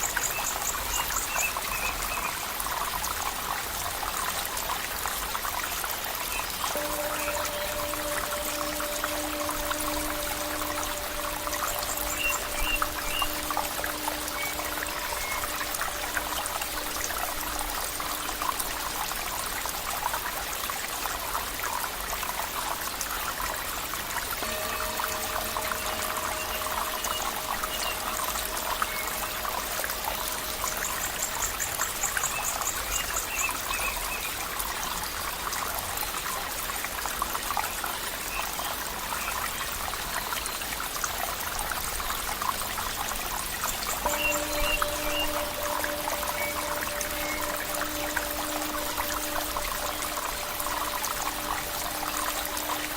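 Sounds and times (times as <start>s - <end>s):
stream running over stones: 0.0s - 52.9s.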